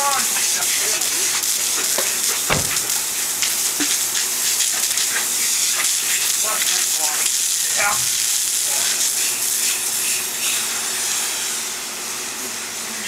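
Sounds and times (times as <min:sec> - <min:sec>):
water spraying from a hose: 0:00.0 - 0:13.0.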